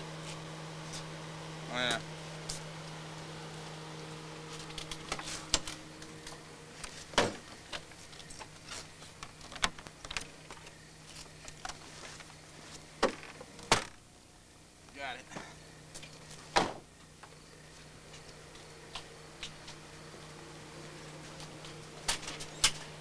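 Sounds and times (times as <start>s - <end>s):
steady low hum with tones: 0.0s - 23.0s.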